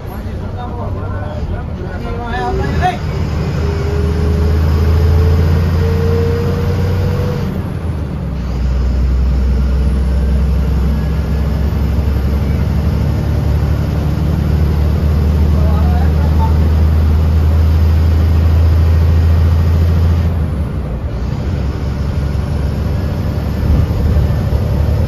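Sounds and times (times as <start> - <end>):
bus diesel engine pulling: 0.0 - 25.0.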